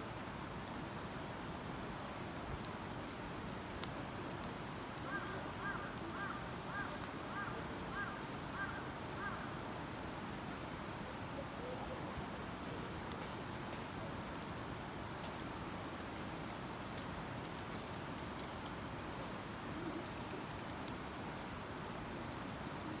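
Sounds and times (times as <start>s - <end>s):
campfire crackling: 0.0s - 23.0s
steady rushing hiss: 0.0s - 23.0s.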